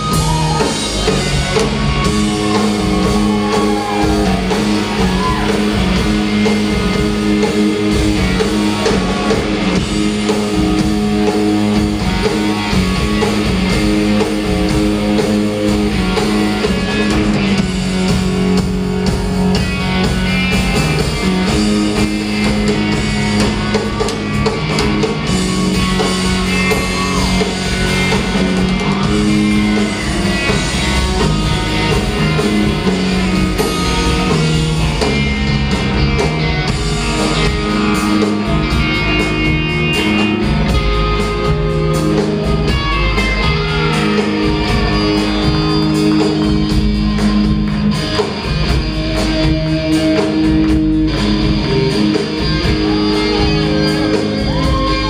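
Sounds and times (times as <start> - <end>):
distant live rock band: 0.0 - 55.0.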